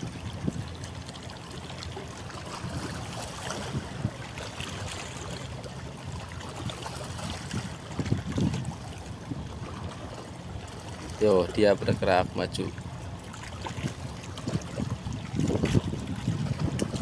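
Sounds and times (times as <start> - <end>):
boat engine rumble: 0.0 - 17.0
water sloshing and splashing: 0.0 - 17.0.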